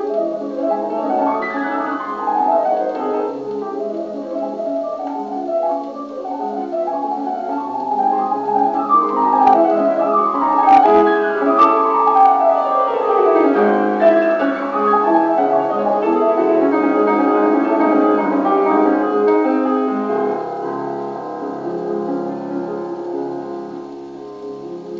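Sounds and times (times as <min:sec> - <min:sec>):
record clicks: 0:00.0 - 0:20.8
solo piano music from gramophone: 0:00.0 - 0:24.9.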